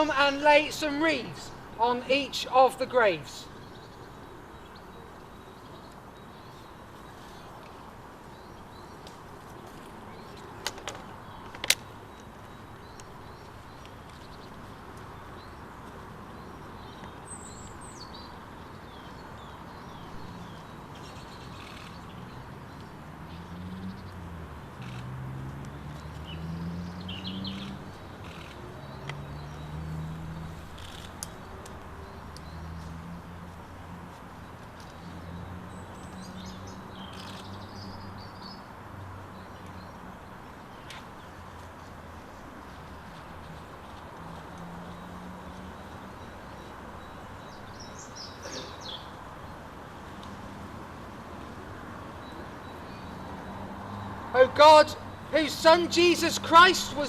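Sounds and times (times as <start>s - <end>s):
small birds chirping: 0.0s - 50.4s, 51.4s - 57.0s
outdoor background hiss: 0.0s - 57.0s.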